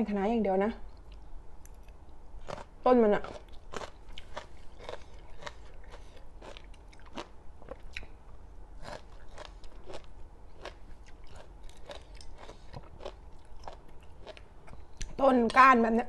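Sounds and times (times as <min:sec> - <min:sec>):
chewing crisp vegetables: 0:00.8 - 0:15.6.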